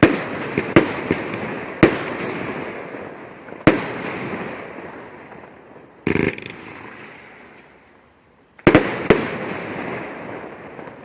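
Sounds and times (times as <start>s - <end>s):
fireworks bangs: 0.0s - 8.0s, 8.6s - 11.0s
fireworks crackling: 0.0s - 11.0s
rumble of fireworks: 0.0s - 11.0s.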